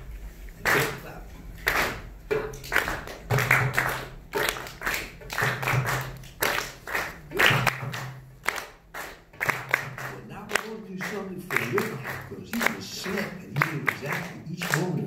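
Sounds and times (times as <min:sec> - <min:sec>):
audience clapping a beat: 0:00.6 - 0:15.0.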